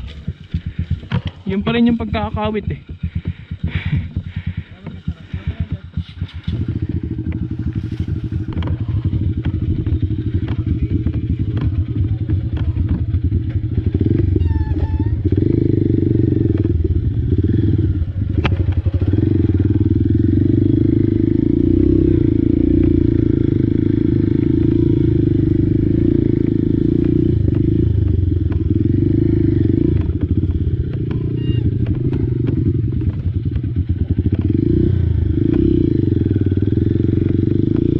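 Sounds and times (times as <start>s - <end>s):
dirt bike engine running: 0.0s - 37.9s.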